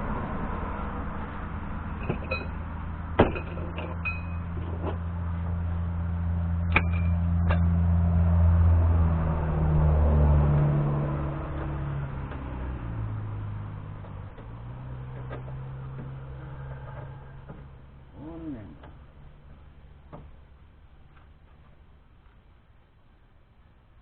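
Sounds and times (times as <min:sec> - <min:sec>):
vehicle engine drone passing: 0:00.0 - 0:21.6.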